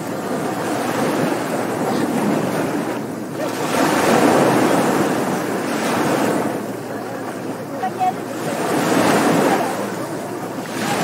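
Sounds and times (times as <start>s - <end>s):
steady wash of sea: 0.0s - 11.0s
wave breaking on shore: 0.0s - 11.0s.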